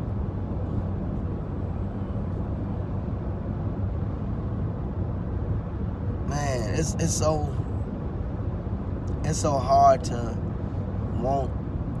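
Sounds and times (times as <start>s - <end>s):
truck cabin road and engine rumble: 0.0s - 12.0s.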